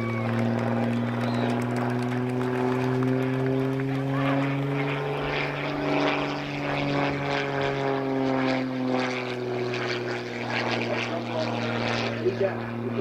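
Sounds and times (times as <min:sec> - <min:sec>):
propeller airplane flying overhead: 0:00.0 - 0:13.0.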